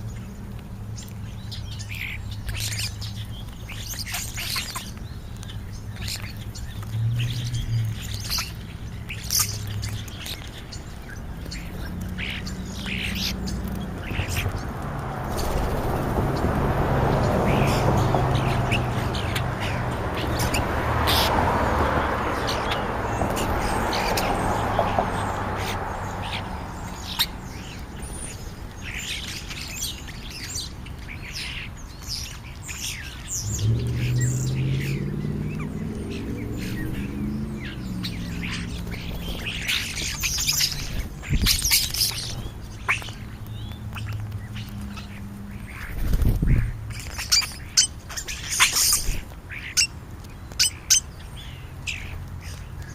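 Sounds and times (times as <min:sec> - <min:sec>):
starlings chattering: 0:00.0 - 0:52.9.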